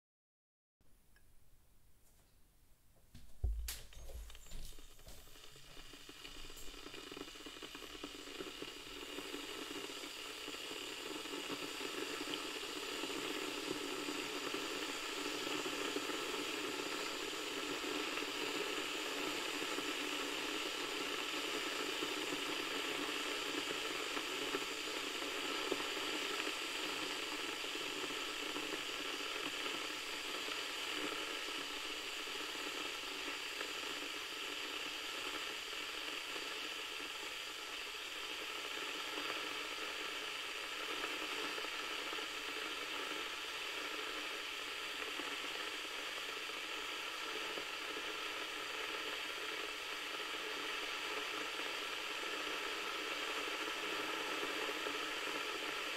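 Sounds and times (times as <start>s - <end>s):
water heater hissing: 3.1s - 55.9s.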